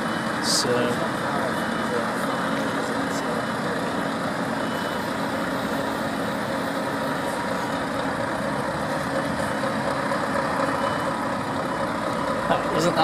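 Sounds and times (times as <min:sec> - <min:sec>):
diesel lorry engines idling: 0:00.0 - 0:13.0.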